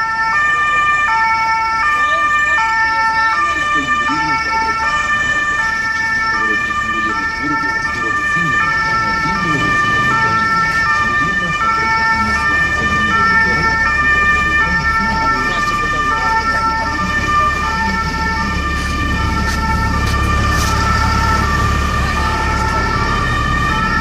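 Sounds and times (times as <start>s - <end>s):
ambulance siren wailing: 0.0s - 24.0s
traffic rumble: 0.0s - 24.0s.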